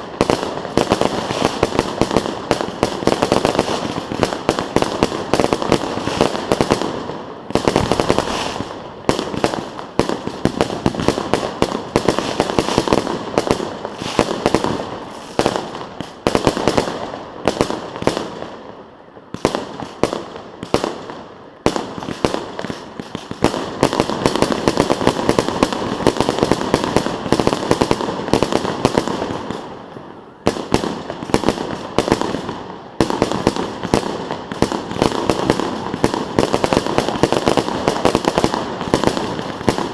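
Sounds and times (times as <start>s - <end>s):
fireworks exploding and crackling: 0.0s - 39.9s.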